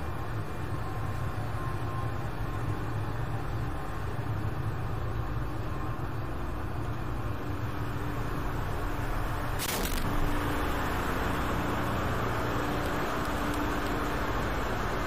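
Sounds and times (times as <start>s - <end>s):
engine-room machinery drone: 0.0s - 15.0s.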